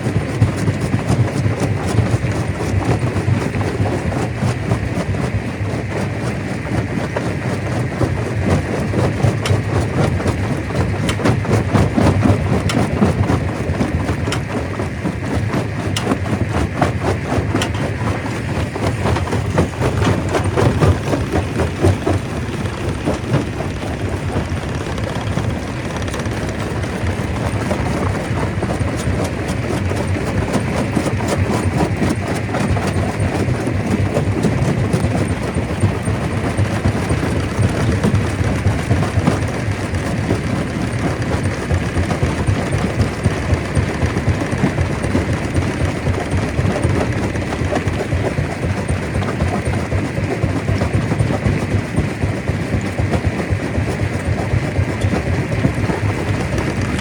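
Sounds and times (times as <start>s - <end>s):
low mechanical rumble: 0.0s - 49.2s, 51.8s - 57.0s
rocks knocking and cracking: 0.0s - 57.0s.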